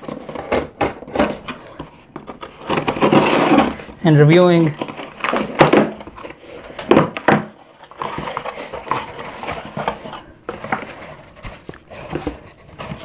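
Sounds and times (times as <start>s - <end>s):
cardboard scraping and rustling: 0.0s - 13.0s.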